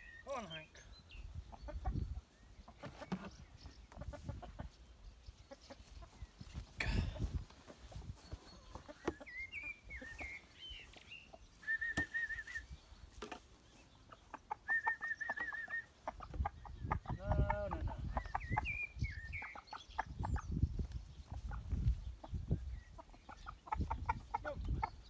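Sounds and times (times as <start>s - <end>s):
chickens clucking and calling: 0.0s - 25.0s.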